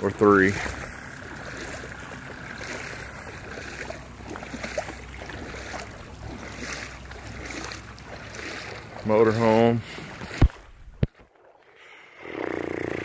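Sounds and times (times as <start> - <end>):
footsteps sloshing through water: 0.0 - 12.3.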